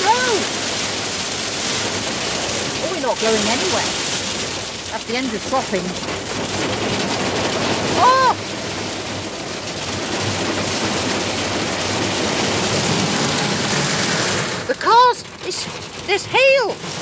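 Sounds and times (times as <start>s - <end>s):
rain and hail on car roof: 0.0s - 17.0s.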